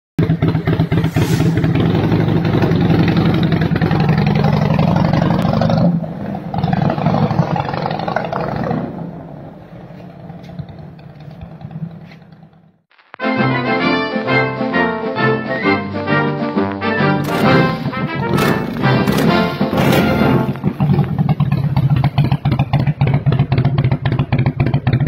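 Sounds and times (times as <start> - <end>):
motorcycle pulling away: 0.2 - 12.8, 17.2 - 25.0
motorcycle exhaust pulsing: 0.2 - 12.9, 17.2 - 25.0.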